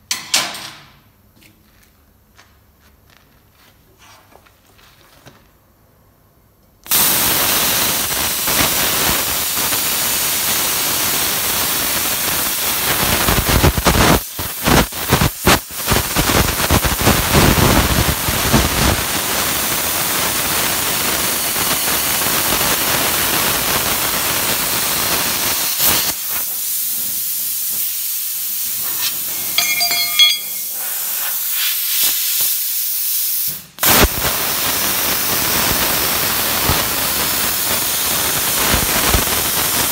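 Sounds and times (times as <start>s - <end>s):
plasma cutter hissing: 6.9s - 39.9s.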